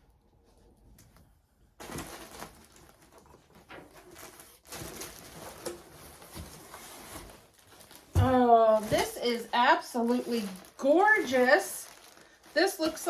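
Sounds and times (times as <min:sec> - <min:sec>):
packaging rustling: 0:01.8 - 0:13.0.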